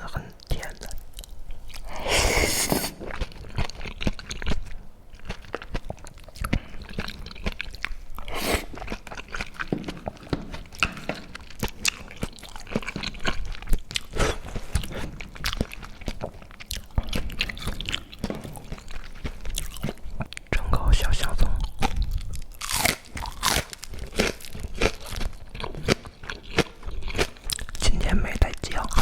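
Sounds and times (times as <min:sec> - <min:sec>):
person chewing: 0:00.4 - 0:29.0.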